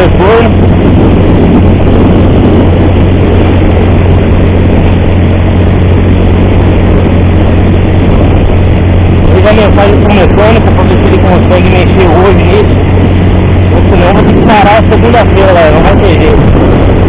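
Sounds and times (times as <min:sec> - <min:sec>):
strange engine noise: 0:00.0 - 0:17.0
motorcycle engine running: 0:00.4 - 0:17.0.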